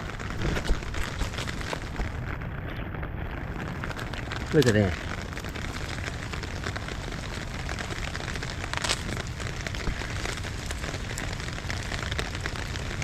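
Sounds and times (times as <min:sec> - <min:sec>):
rain on concrete: 0:00.0 - 0:13.0.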